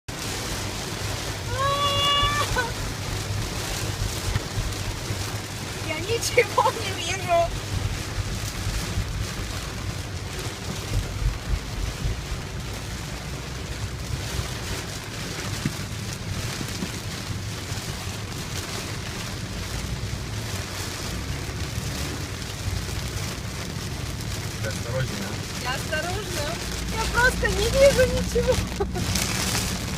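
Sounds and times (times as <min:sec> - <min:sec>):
low road and engine rumble: 0:00.0 - 0:29.9
heavy rain drumming on a car: 0:00.1 - 0:29.9.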